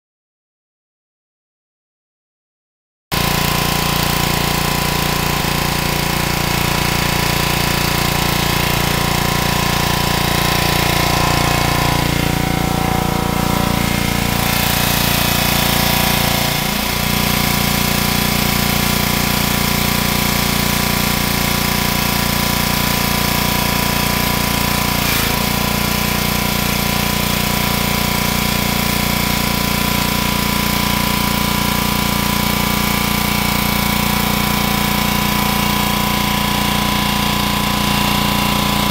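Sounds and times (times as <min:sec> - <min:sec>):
small engine running: 0:03.1 - 0:38.9
hose spraying water on net: 0:03.2 - 0:11.8, 0:13.7 - 0:38.9.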